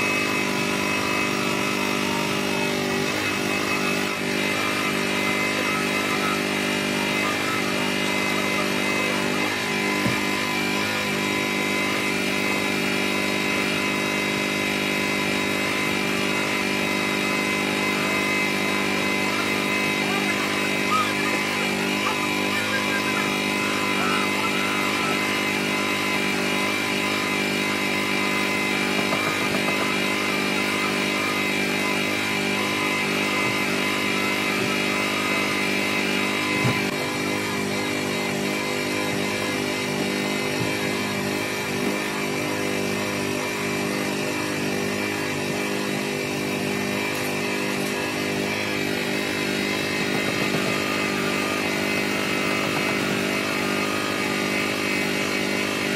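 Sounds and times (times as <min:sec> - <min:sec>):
polishing motor droning whine: 0:00.0 - 0:55.9.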